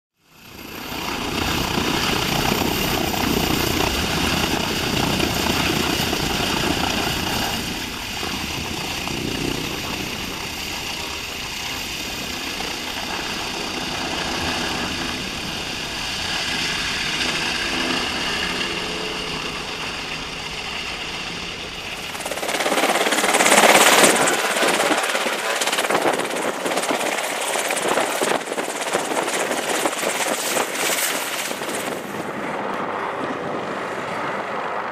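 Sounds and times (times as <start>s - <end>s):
helicopter rotor and turbine: 0.1s - 34.9s.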